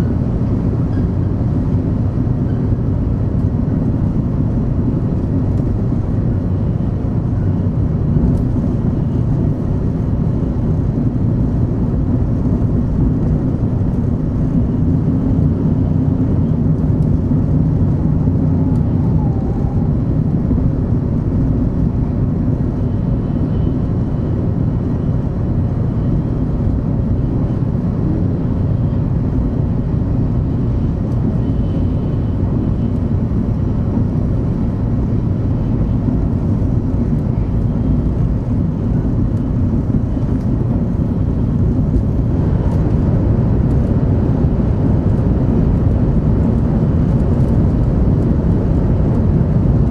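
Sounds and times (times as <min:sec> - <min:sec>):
train cabin low rumble: 0:00.0 - 0:49.9.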